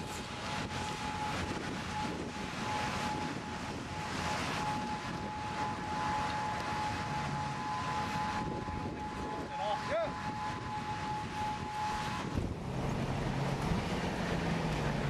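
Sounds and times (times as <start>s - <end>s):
higher warning tone: 0.0s - 15.0s
tornado warning tone: 0.0s - 15.0s
vehicle noise: 0.0s - 15.0s
wind: 0.0s - 15.0s.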